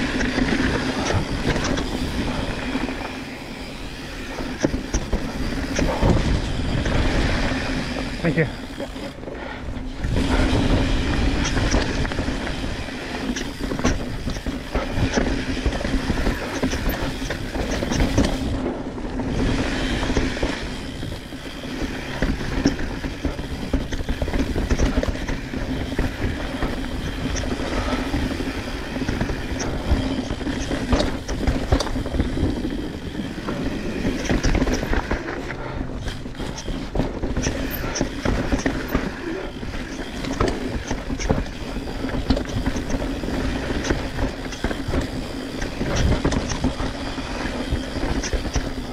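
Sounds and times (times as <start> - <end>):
bike rattling and clicking: 0.0 - 48.9
bike tyres crunching on gravel: 0.0 - 48.9.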